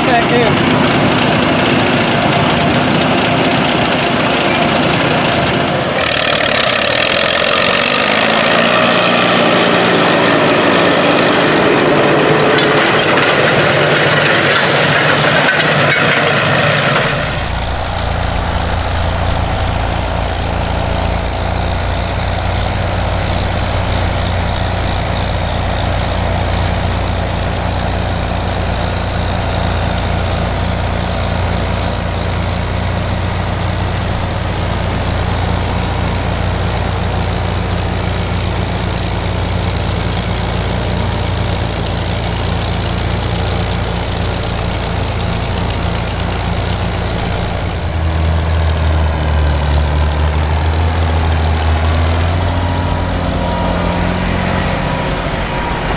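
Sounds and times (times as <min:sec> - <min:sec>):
low tractor drone: 0:00.0 - 0:55.9
tractor engines under load: 0:00.0 - 0:55.9.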